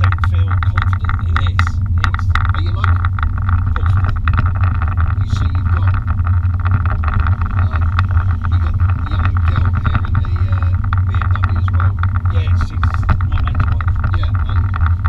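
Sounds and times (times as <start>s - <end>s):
car engine drone: 0.0s - 15.0s
road noise inside car: 0.0s - 15.0s.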